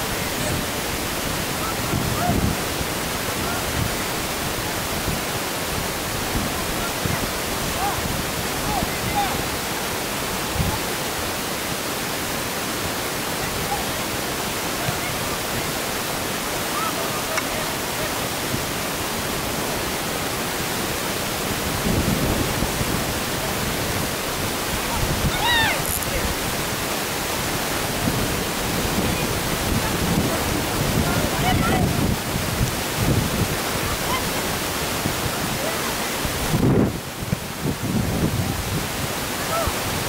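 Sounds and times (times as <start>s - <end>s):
wind on microphone: 0.0s - 11.7s, 12.7s - 40.0s.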